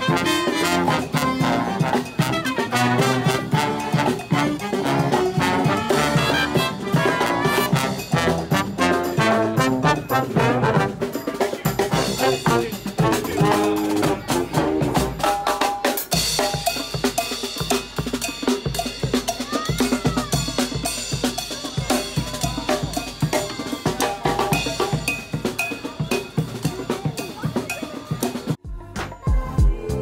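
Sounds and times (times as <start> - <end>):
marching brass band: 0.0 - 28.6
snare and bass drums: 0.0 - 30.0.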